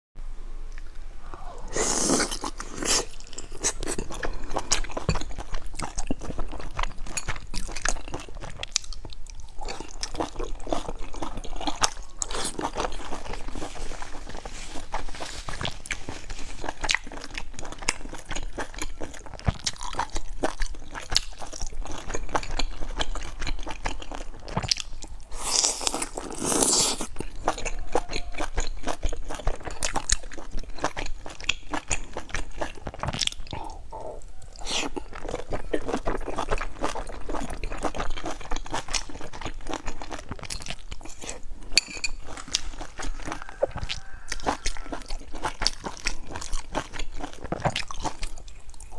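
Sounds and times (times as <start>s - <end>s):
chewing with wet mouth clicks: 2.1s - 14.0s, 16.6s - 48.9s.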